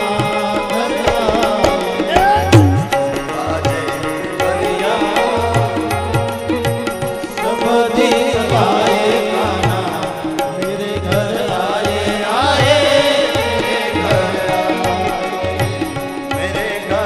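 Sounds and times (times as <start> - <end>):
harmonium: 0.0 - 17.0
person singing: 0.0 - 17.0
tabla rhythm: 0.0 - 17.0.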